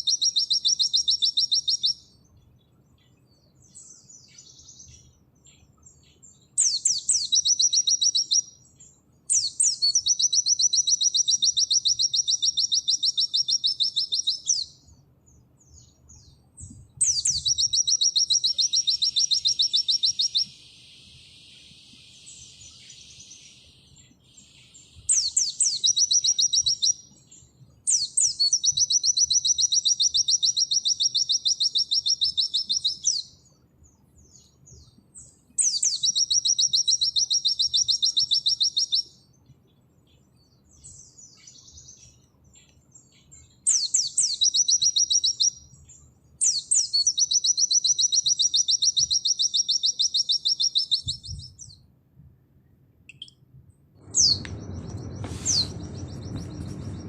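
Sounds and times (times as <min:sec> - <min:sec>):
bird singing rapid trills: 0:00.0 - 0:14.9, 0:15.6 - 0:33.5, 0:34.2 - 0:39.3, 0:40.1 - 0:51.9, 0:54.0 - 0:57.0.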